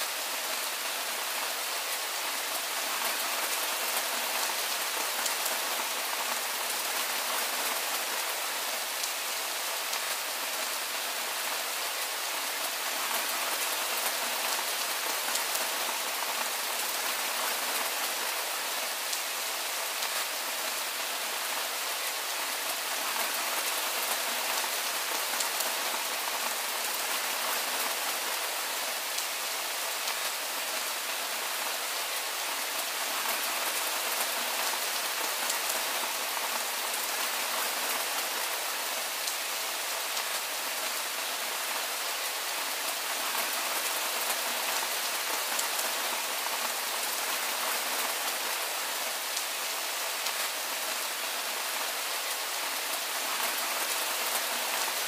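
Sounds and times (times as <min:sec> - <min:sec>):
soft rain falling: 0:00.0 - 0:55.0.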